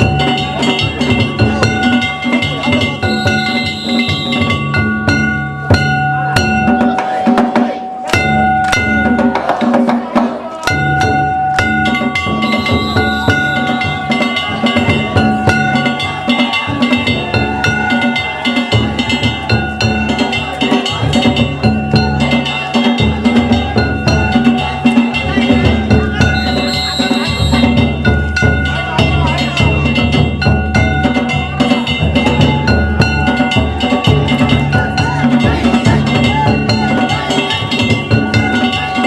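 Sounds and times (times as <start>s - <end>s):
gongs ringing: 0.0s - 9.5s, 10.6s - 39.0s
taiko drum beating: 0.0s - 39.0s.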